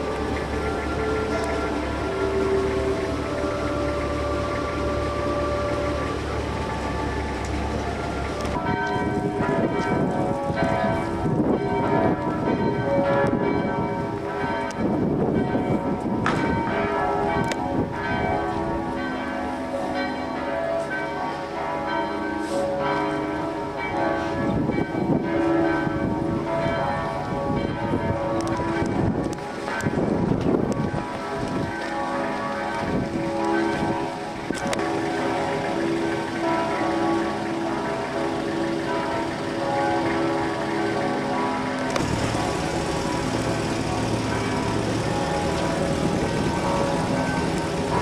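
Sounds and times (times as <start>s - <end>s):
rushing background noise: 0.0s - 20.0s, 23.5s - 48.0s
church bells ringing: 0.0s - 48.0s.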